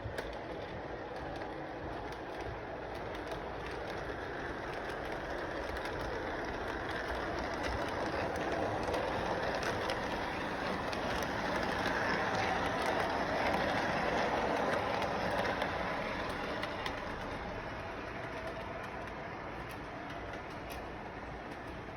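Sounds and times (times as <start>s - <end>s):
faint clicking rails: 0.0s - 21.9s
train rumbling on track: 0.0s - 21.9s.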